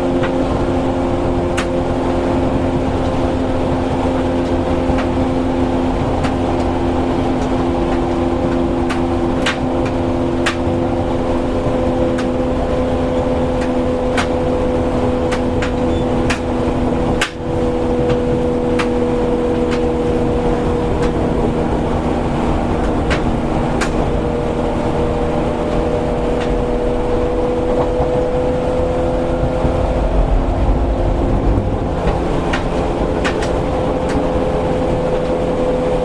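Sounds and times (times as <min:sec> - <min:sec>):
train motor and gear hum: 0:00.0 - 0:36.0
train rolling noise: 0:00.0 - 0:36.0
wheels clicking over rail joints: 0:00.0 - 0:36.0.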